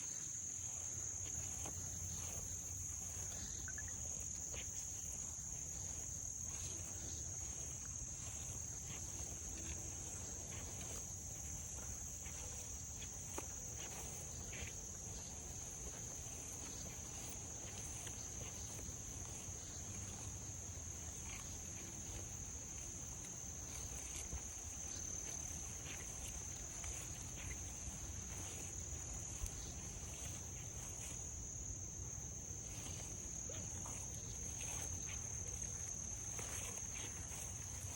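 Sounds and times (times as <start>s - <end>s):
footsteps crunching on trail: 0.0s - 37.9s
high-pitched insect chorus: 0.0s - 37.9s.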